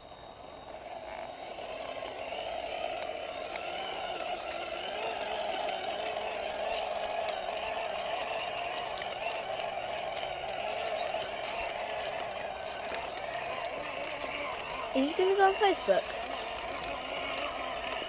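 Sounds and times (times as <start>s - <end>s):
small electric motor whining: 0.0s - 18.0s.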